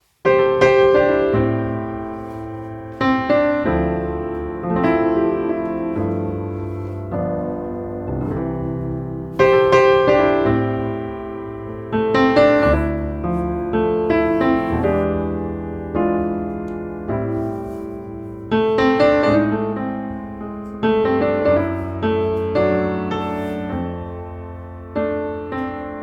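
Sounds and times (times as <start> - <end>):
slow piano chords: 0.1 - 26.0.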